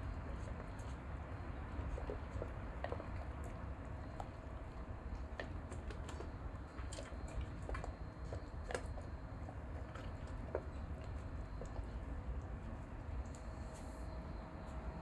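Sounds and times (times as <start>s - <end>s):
dog chewing and crunching: 0.0s - 13.8s
steady low hum: 0.0s - 15.0s.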